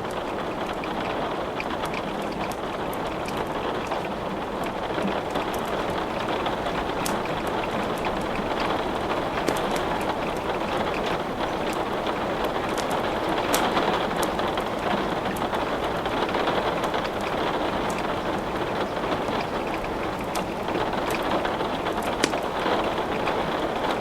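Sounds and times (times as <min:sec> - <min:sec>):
steady rain: 0:00.0 - 0:24.0
fireplace wood crackling: 0:00.1 - 0:24.0.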